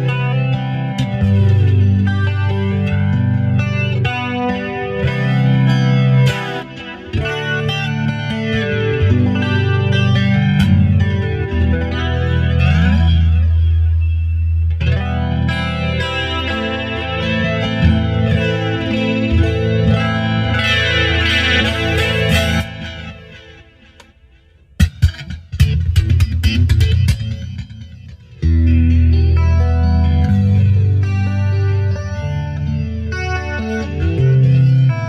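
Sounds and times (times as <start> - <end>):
electric guitar chords: 0.0 - 35.0.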